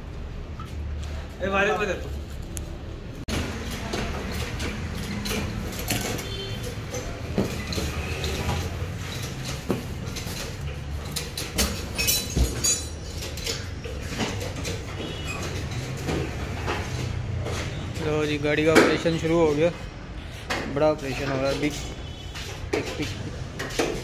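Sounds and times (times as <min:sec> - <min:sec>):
tools and parts clattering: 0:03.3 - 0:19.8, 0:20.4 - 0:24.0.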